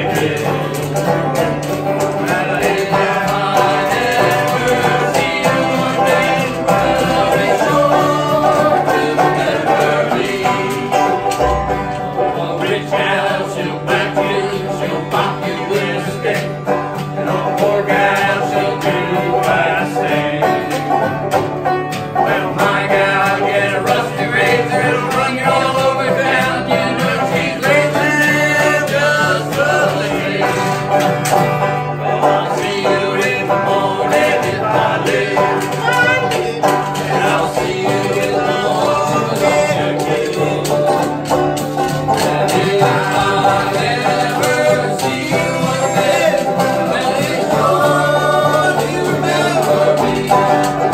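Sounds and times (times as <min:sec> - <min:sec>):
banjo: 0:00.0 - 0:50.9
men singing together: 0:00.0 - 0:50.9
strummed acoustic guitar: 0:00.0 - 0:50.9.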